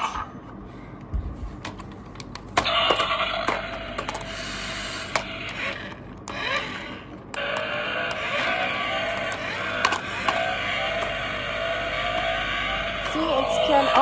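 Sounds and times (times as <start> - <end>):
toy car motor whirring: 2.6 - 14.0.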